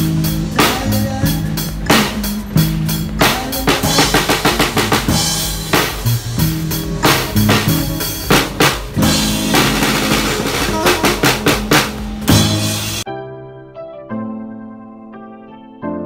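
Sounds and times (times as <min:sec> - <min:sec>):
drum kit rock beat: 0:00.0 - 0:13.1
backing music with bass line: 0:00.0 - 0:15.8.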